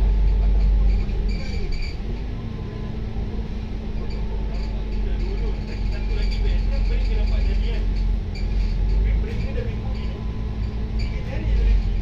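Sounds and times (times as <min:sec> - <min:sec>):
bus diesel engine running: 0:00.0 - 0:12.0
road rumble: 0:00.0 - 0:12.0.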